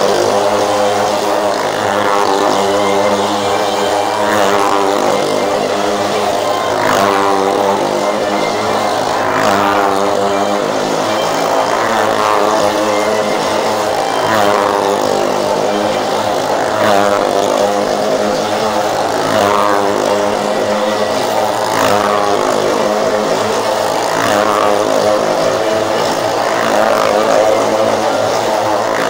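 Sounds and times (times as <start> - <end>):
engine running hard on wooden wall: 0.0 - 29.0.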